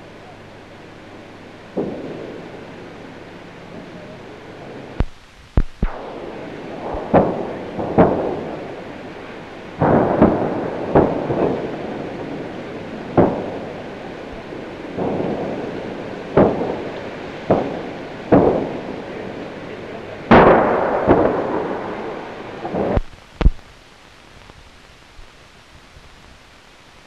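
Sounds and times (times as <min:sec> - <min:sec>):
faint hiss: 0:00.0 - 0:27.0
heavy explosions booming: 0:01.1 - 0:23.7.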